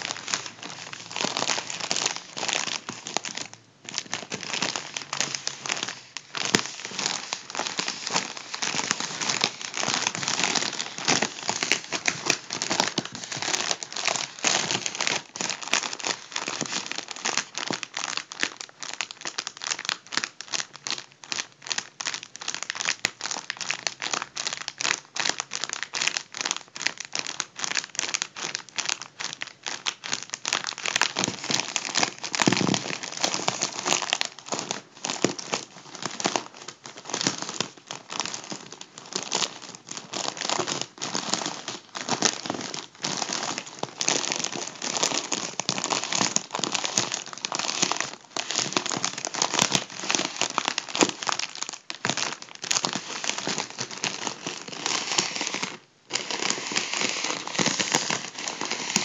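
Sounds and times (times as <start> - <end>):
foil balloon crinkling: 0.0 - 59.0.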